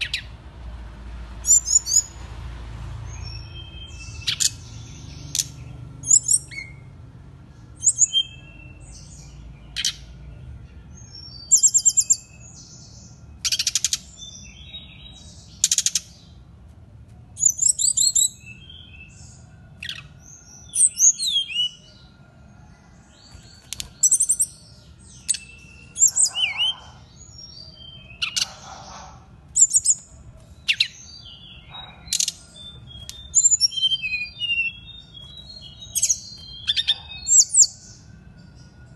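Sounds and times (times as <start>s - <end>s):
bird singing whistles and trills: 3.1s - 6.9s, 7.8s - 10.0s, 11.0s - 16.4s, 17.4s - 22.0s, 23.2s - 38.9s.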